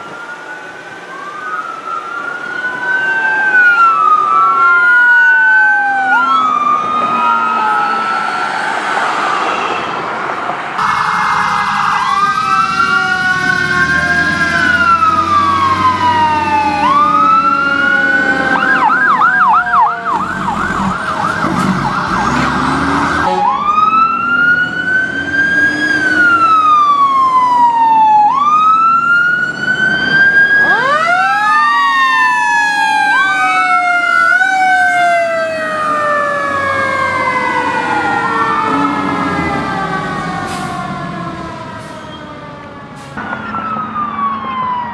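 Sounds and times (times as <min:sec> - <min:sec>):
emergency sirens wailing: 0:00.0 - 0:44.9
siren fast yelp: 0:01.1 - 0:09.9, 0:10.8 - 0:22.6, 0:23.2 - 0:39.9.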